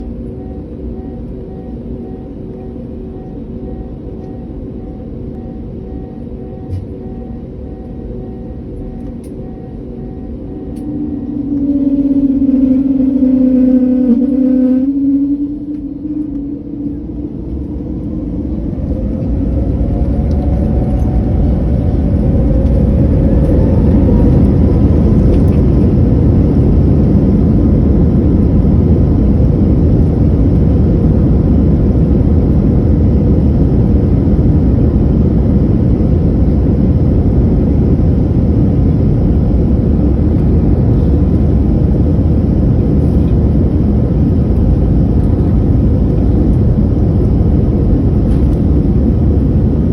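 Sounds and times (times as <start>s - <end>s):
jet engines spooling up: 0.0s - 49.9s.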